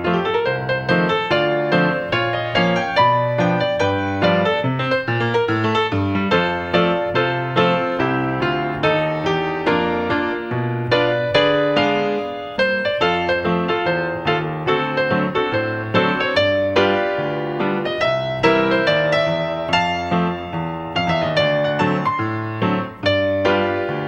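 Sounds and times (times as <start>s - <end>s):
keyboard music: 0.0s - 24.0s.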